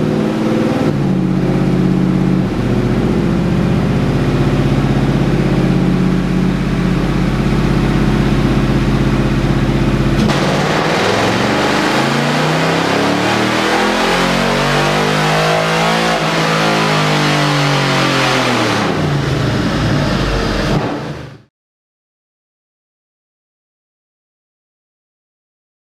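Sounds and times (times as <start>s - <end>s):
car engine revving on dyno: 0.0s - 21.5s.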